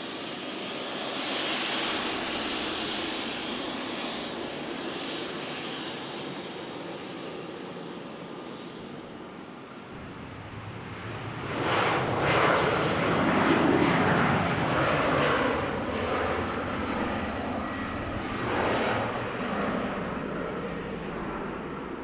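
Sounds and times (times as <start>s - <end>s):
jet engine roar at takeoff: 0.0s - 22.0s.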